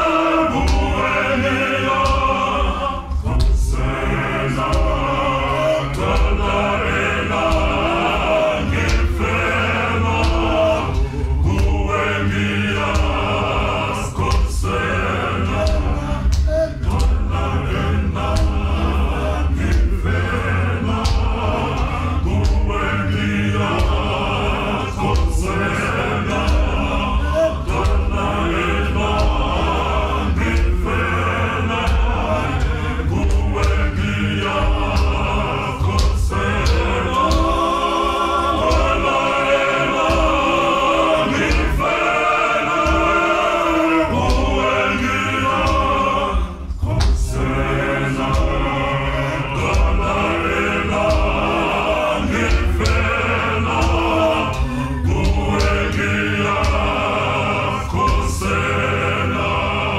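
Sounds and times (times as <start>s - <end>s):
male choir singing in harmony: 0.0s - 59.9s.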